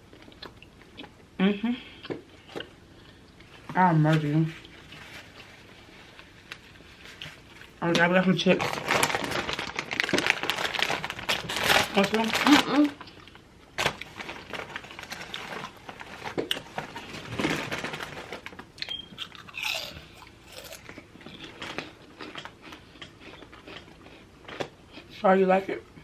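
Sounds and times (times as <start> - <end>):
chewing and crunching food: 0.0 - 3.7, 4.5 - 25.2.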